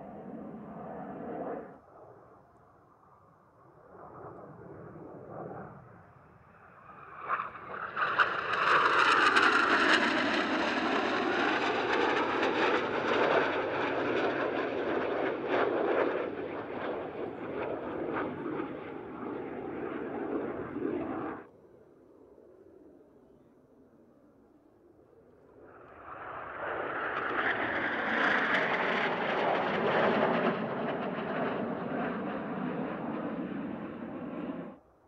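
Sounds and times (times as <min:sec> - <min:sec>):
jet aircraft fly-past: 0:00.0 - 0:34.8.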